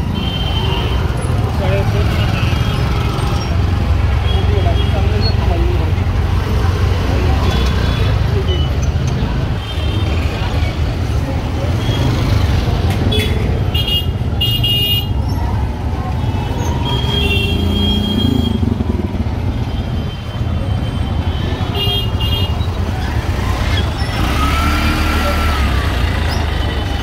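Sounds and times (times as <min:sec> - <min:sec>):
traffic engines rumbling: 0:00.0 - 0:27.0.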